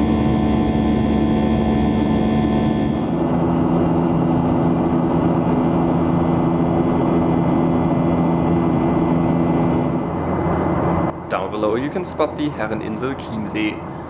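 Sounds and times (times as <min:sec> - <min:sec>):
low hum: 0:00.0 - 0:11.3
airplane cabin airflow rush: 0:00.0 - 0:14.0
jet engines droning: 0:00.0 - 0:14.0.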